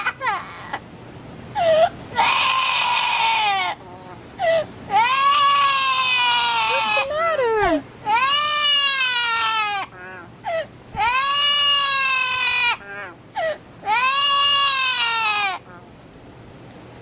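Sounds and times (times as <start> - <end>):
parrot mimicking crying baby: 0.0 - 0.8, 1.6 - 15.8.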